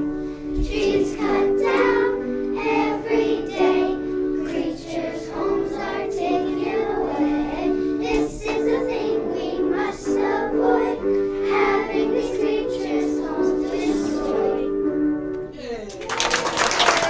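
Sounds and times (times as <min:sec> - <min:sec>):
children singing: 0:00.6 - 0:14.8.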